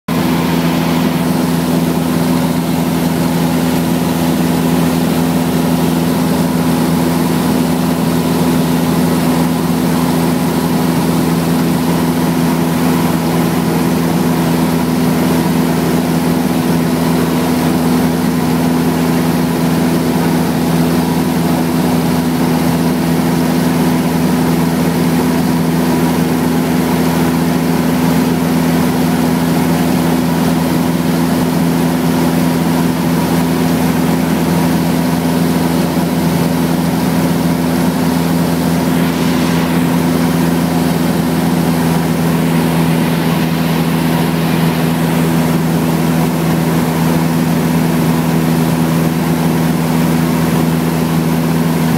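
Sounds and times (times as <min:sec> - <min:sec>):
aircraft engine and propeller droning: 0:00.1 - 0:51.9
rush of air noise: 0:00.1 - 0:51.9.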